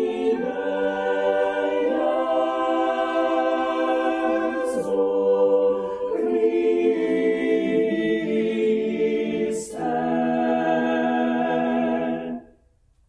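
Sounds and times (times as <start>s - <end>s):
choir singing held notes: 0.0s - 12.5s.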